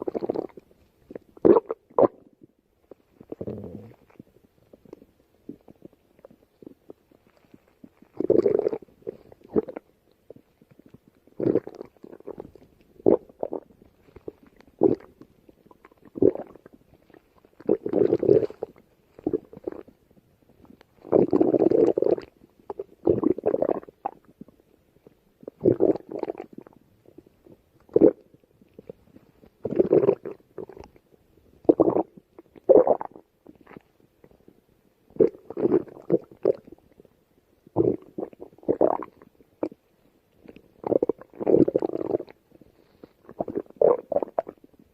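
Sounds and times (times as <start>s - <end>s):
stomach growling and gurgling: 0.0s - 44.9s.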